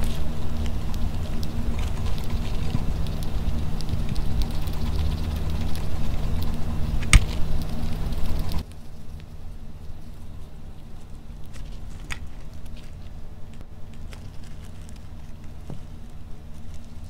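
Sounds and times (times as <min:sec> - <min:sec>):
rat chewing food: 0:00.0 - 0:17.0.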